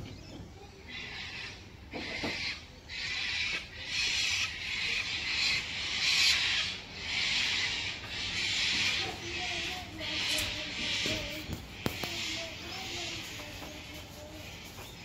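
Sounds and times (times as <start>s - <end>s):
lorikeets screeching: 0.0s - 15.0s.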